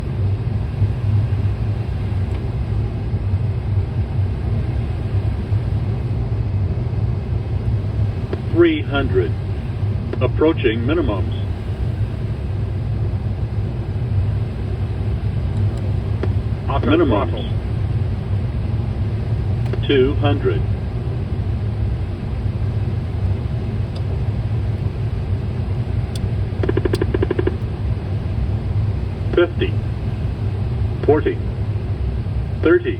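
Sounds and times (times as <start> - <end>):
jet engines and airflow rumble: 0.0 - 32.9.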